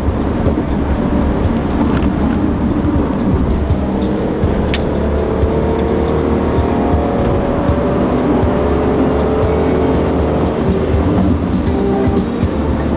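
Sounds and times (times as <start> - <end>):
car engine and road noise: 0.0 - 12.9
music in car: 0.0 - 12.9.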